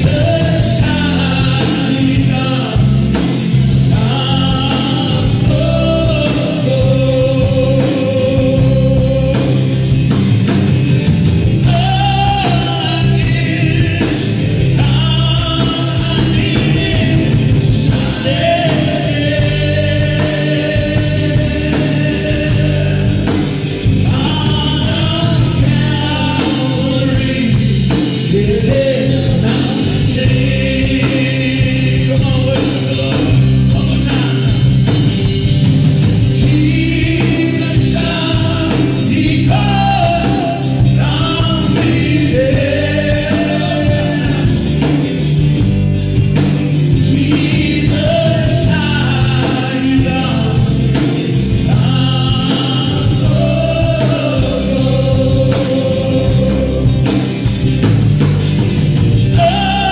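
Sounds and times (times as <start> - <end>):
backing singers: 0.0 - 59.9
band with electric guitars: 0.0 - 59.9
man singing lead: 0.0 - 59.9.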